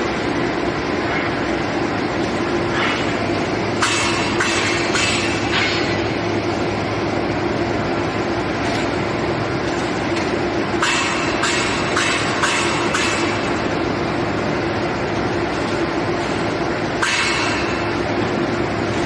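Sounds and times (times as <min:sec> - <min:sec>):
industrial machinery hum: 0:00.0 - 0:19.0.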